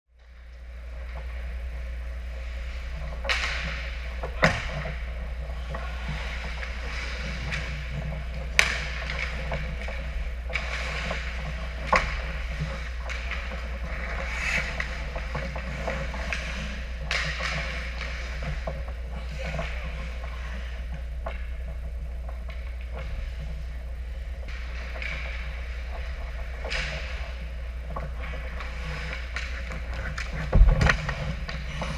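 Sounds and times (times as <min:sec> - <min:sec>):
steady low hum: 0:00.1 - 0:31.9
skates scraping ice: 0:02.4 - 0:20.9, 0:24.5 - 0:31.9
sticks and pucks cracking: 0:03.0 - 0:23.7, 0:24.3 - 0:31.9.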